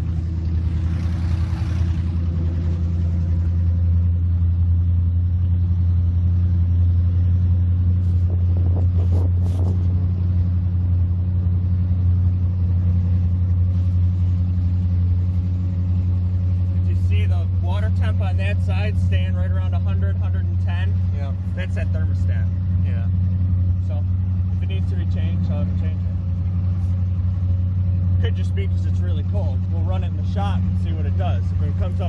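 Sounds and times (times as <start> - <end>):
powerboat engines idling: 0.0 - 32.0.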